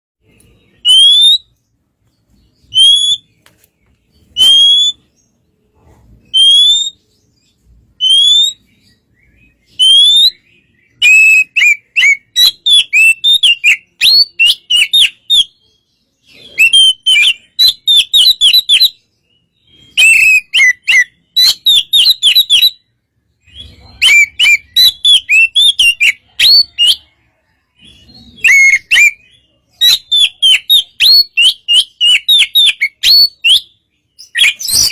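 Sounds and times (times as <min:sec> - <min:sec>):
songbird whistling song: 0:00.2 - 0:34.9.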